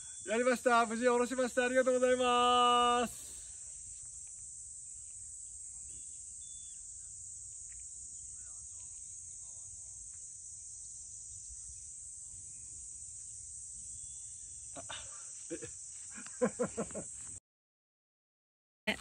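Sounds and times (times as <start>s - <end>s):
insects chirping chorus: 0.0s - 17.4s.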